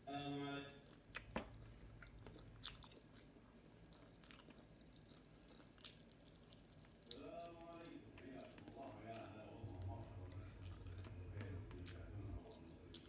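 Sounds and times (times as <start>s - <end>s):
person chewing: 0.8s - 13.0s.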